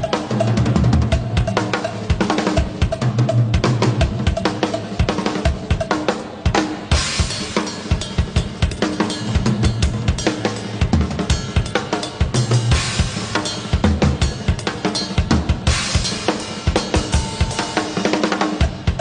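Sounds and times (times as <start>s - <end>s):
rock drum kit playing: 0.0s - 19.0s.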